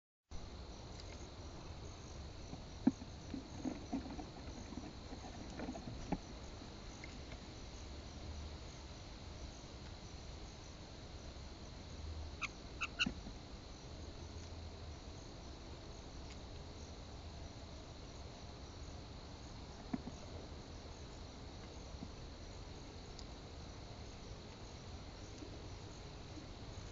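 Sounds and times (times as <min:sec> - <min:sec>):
high-pitched insect chorus: 0:00.4 - 0:26.9.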